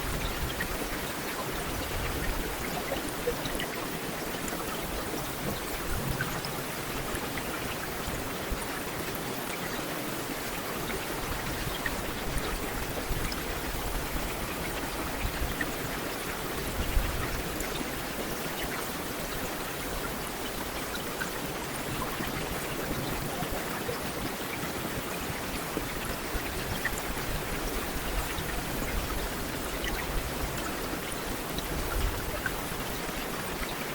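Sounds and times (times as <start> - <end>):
heavy rain on street: 0.0 - 33.9.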